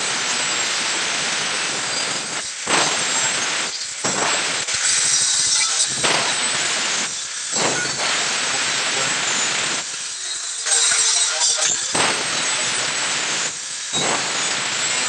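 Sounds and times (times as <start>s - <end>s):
angle grinder cutting steel tube: 0.0s - 15.0s.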